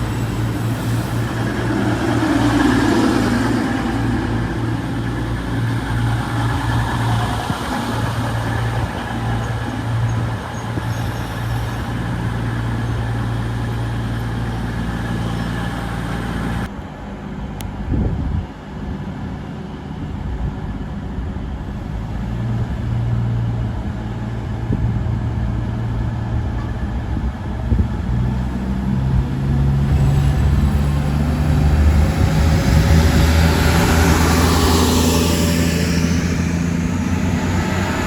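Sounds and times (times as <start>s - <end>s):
train diesel engines humming: 0.0s - 38.0s.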